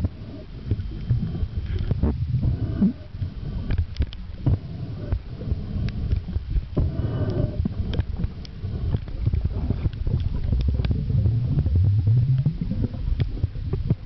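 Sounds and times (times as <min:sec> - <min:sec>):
muffled underwater rumbling: 0:00.0 - 0:14.0
wavering low hum: 0:00.0 - 0:14.0.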